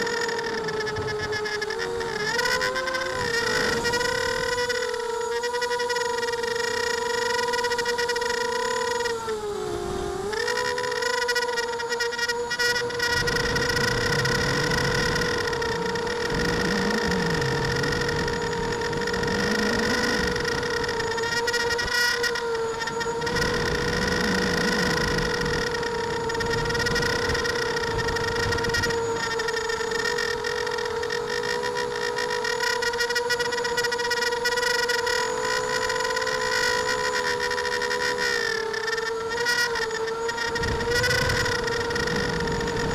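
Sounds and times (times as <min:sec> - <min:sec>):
quadcopter motors whining: 0:00.0 - 0:42.9.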